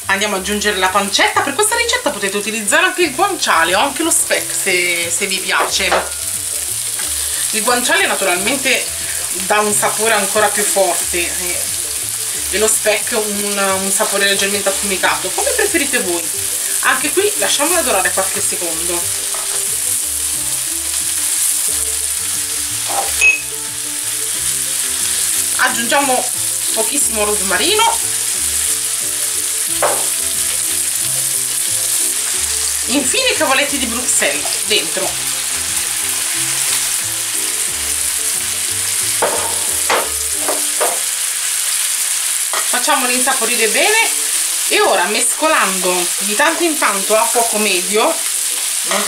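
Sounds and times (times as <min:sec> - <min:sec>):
food sizzling in a frying pan: 0:00.0 - 0:49.0.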